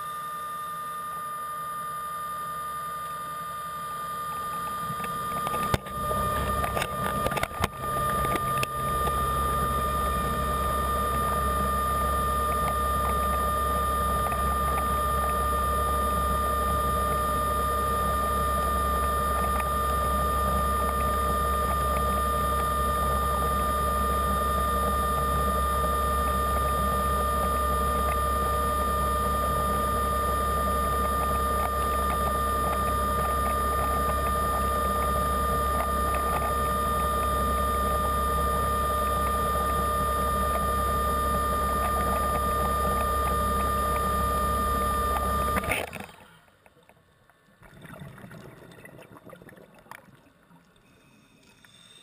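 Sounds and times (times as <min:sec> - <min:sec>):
underwater scooter motor whining: 0:00.0 - 0:48.0.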